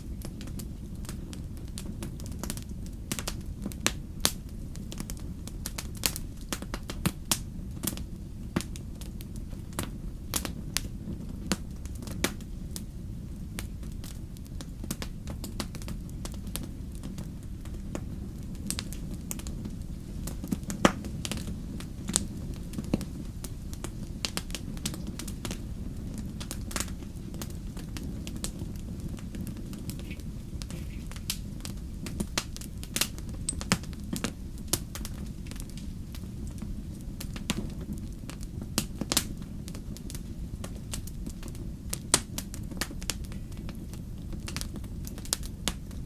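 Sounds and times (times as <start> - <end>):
bonfire pops and snaps: 0.0 - 46.0
low rumble of flames: 0.0 - 46.0.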